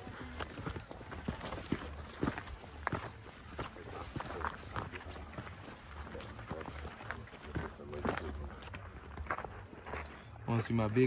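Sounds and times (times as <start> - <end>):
footsteps on dirt trail: 0.0 - 11.0.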